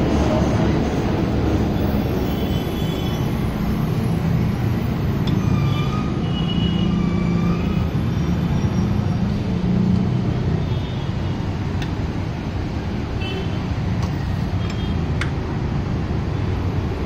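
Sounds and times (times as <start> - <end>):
road traffic: 0.0 - 17.0
vehicle engines rumbling: 0.0 - 17.0.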